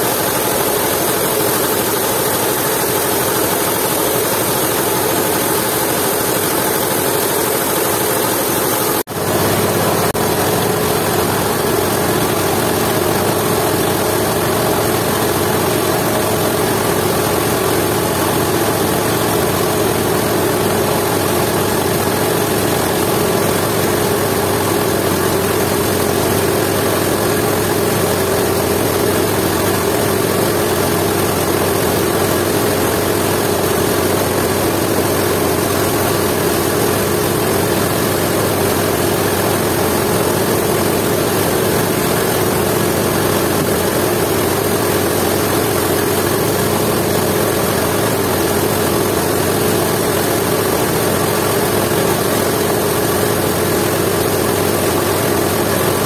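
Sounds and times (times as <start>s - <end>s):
diesel engine and coffee mill din: 0.0s - 56.0s.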